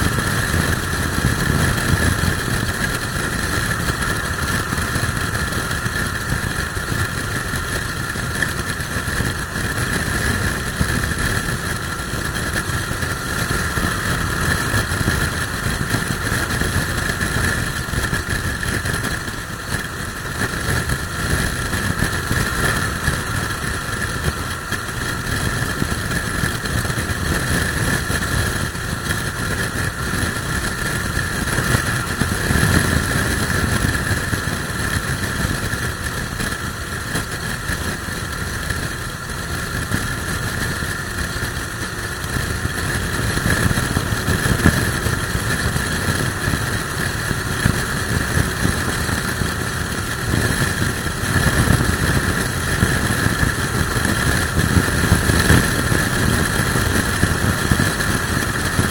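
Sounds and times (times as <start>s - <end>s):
motorcycle engine cruising: 0.0s - 58.9s
road noise: 0.0s - 58.9s
wind rushing over microphone: 0.0s - 58.9s.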